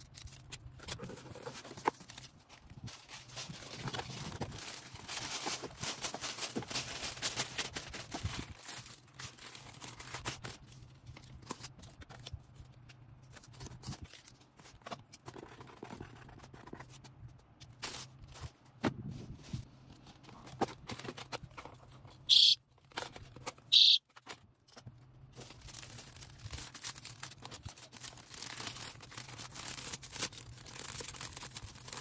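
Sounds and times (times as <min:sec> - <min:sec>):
packaging rustling and crinkling: 0:00.0 - 0:18.8, 0:19.4 - 0:32.0.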